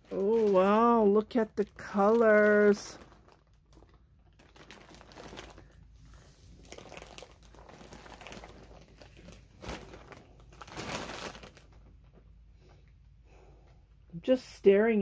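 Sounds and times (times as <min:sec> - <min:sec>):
plastic bag crinkling: 0:00.0 - 0:12.4.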